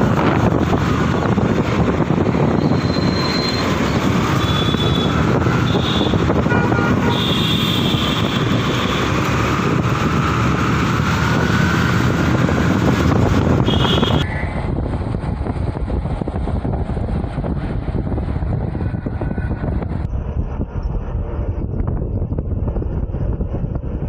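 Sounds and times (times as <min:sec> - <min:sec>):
heavy wind noise: 0:00.0 - 0:24.0.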